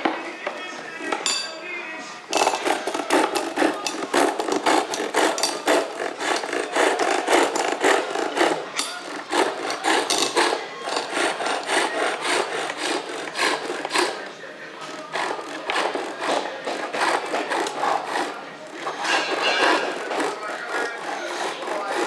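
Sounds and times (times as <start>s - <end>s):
chisel scraping wood on lathe: 0.0s - 1.5s, 2.3s - 22.0s.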